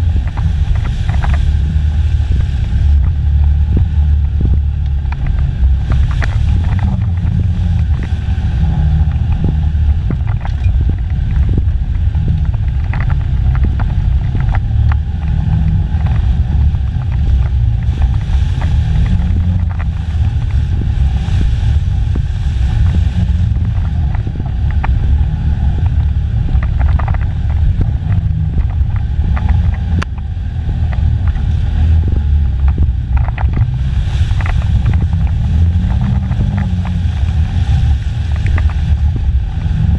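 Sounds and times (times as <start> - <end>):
engine running inside cab: 0.0 - 39.9
knocks and rattles: 0.0 - 39.9.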